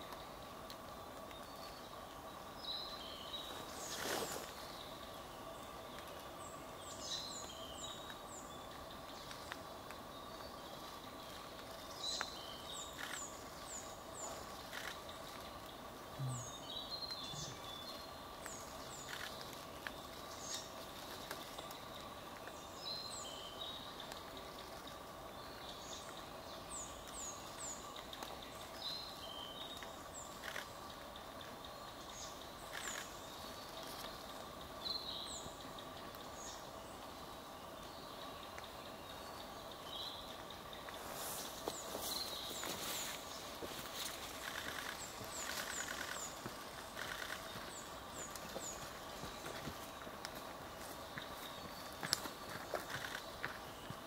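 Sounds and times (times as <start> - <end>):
songbirds calling: 0.0 - 54.0.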